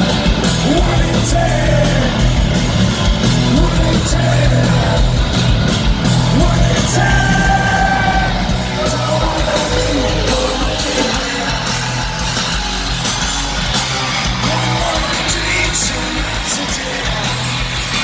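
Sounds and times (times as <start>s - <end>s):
lead singer: 0.0s - 18.0s
rock band playing live: 0.0s - 18.0s.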